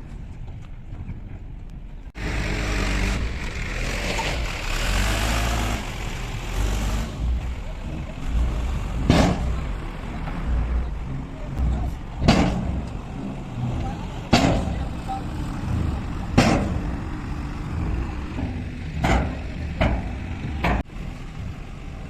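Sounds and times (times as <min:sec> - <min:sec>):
heavy diesel engine running: 0:02.1 - 0:22.0.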